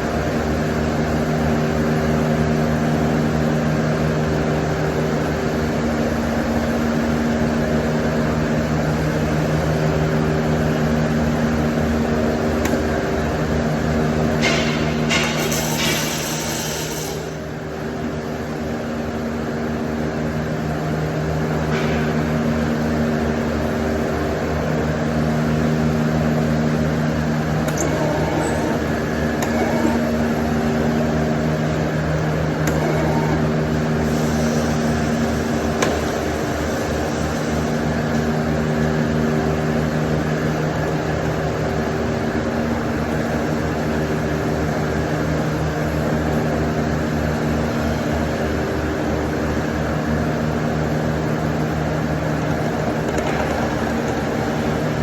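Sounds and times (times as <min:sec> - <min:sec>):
welder electrical hum: 0:00.0 - 0:55.0.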